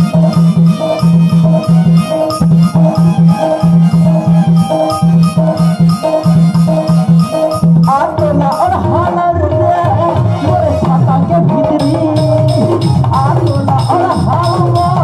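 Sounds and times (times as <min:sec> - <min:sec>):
fast drum rhythm: 0:00.0 - 0:15.0
instrumental melody line: 0:00.0 - 0:15.0.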